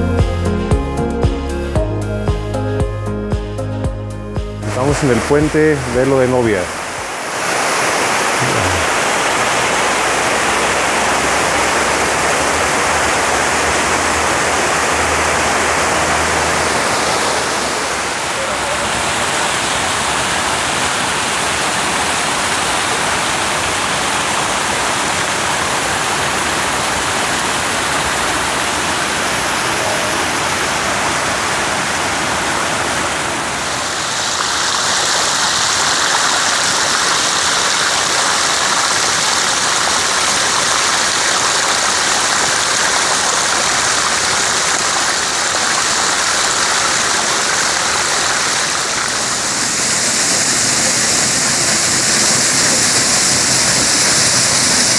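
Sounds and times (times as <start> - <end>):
waterfall rushing water: 4.6 - 54.9.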